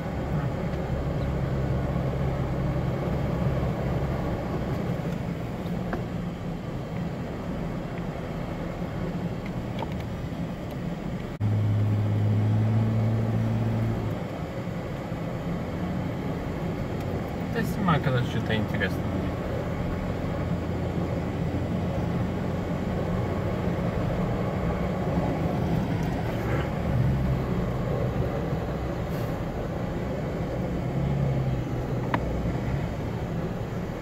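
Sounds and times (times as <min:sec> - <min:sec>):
vehicle engine and tyre drone: 0:00.0 - 0:34.0.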